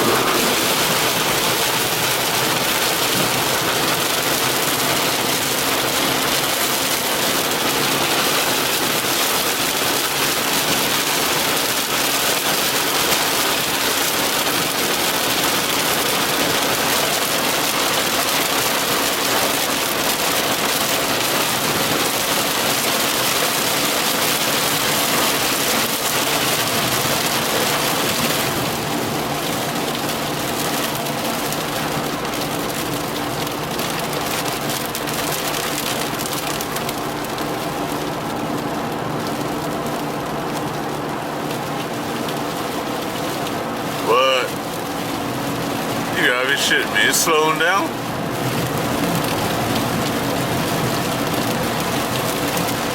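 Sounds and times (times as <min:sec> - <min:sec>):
heavy rain on a car: 0:00.0 - 0:52.9.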